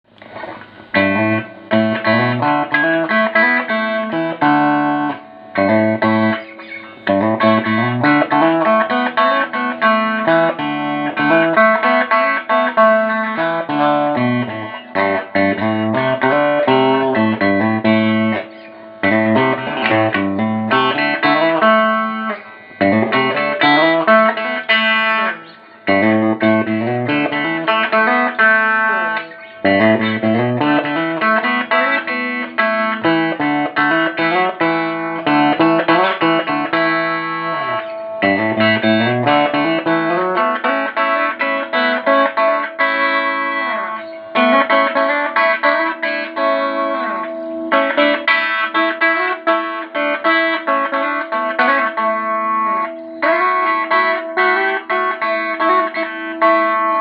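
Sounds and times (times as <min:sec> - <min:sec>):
electric guitar chords and runs: 0:00.1 - 0:57.0.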